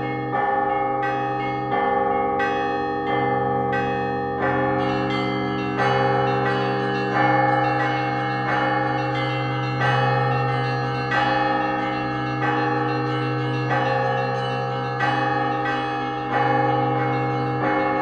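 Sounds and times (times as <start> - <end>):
church bells ringing: 0.0 - 18.0
low hum of large bell: 0.0 - 18.0.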